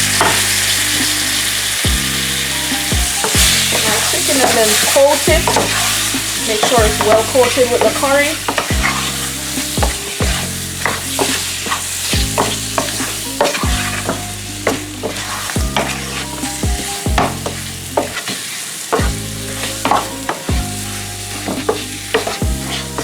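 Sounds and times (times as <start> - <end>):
chicken sizzling in oil: 0.0 - 23.0
spoon scraping a pot: 0.0 - 23.0.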